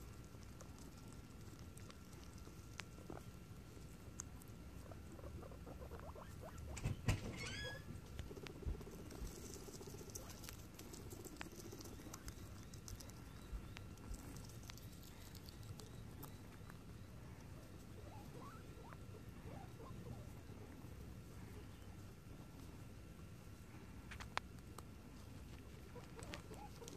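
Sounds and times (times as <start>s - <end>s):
guinea pigs munching: 0.0s - 26.9s.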